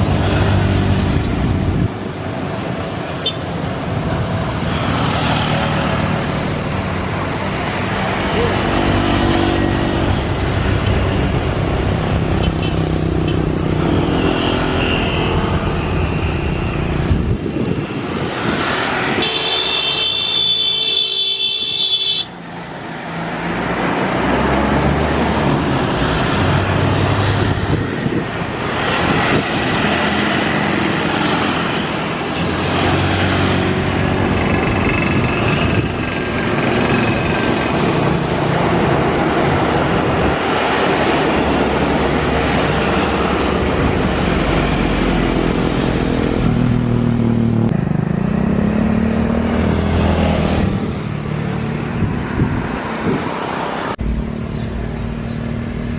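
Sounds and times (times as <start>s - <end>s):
traffic passing: 0.0s - 55.9s.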